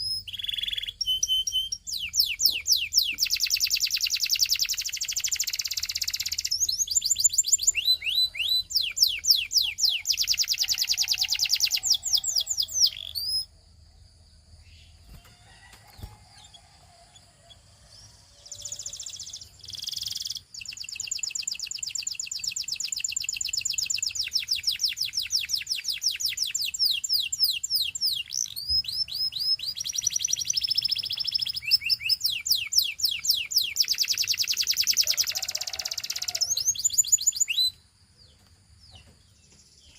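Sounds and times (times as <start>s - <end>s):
canary singing trills: 0.0s - 13.7s, 14.5s - 39.2s.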